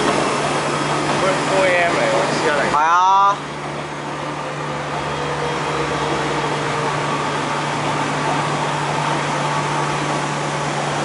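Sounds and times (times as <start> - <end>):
electric train running by: 0.0 - 11.0
faint train whine: 0.0 - 11.0.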